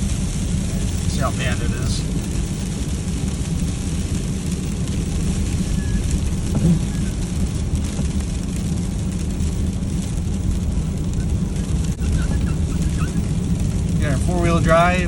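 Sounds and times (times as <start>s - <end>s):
freezing rain hiss: 0.0s - 15.0s
truck engine and tyre rumble: 0.0s - 15.0s.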